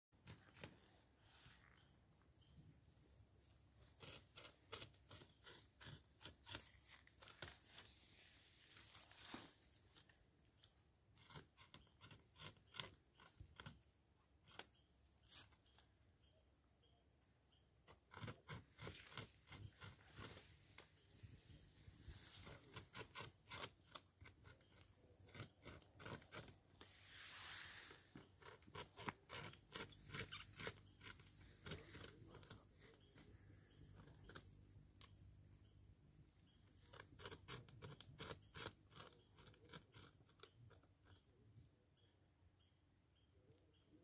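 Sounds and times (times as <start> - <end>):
beaver gnawing wood: 1.8 - 8.9, 9.9 - 15.8, 17.8 - 41.4.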